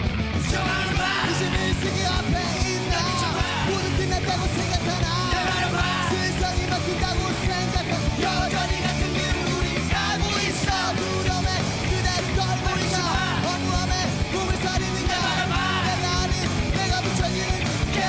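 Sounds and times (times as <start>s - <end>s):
bass guitar: 0.0s - 18.0s
electric guitar: 0.0s - 18.0s
steady drum beat: 0.2s - 18.0s
male lead vocals singing loudly: 0.4s - 18.0s.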